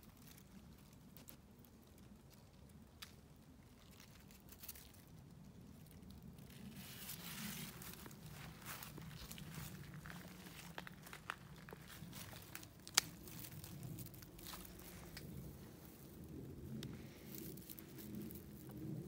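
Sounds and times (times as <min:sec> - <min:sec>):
spruce branches rustling: 0:00.0 - 0:19.0.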